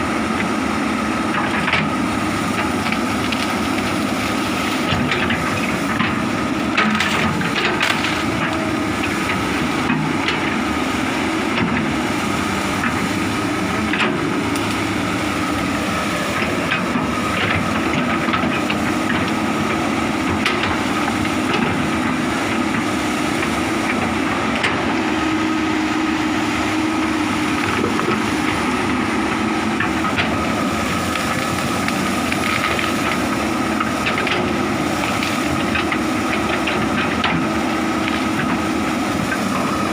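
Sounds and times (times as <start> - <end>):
excavator engine whining: 0.0 - 39.9.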